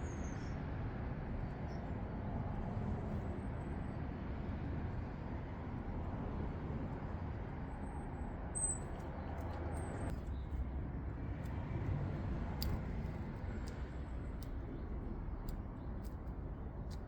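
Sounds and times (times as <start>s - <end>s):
distant road traffic rumble: 1.0s - 17.0s.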